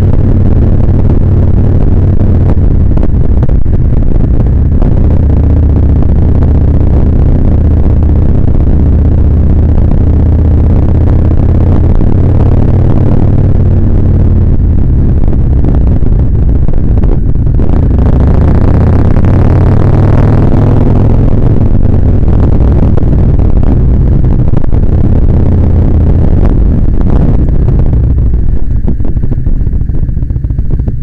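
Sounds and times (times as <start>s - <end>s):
motorcycle engine throbbing: 0.0s - 31.0s.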